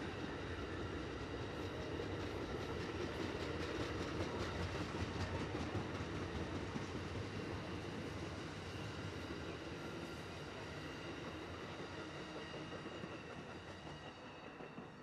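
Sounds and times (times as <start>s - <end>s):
train cars rolling on track: 0.0s - 15.0s.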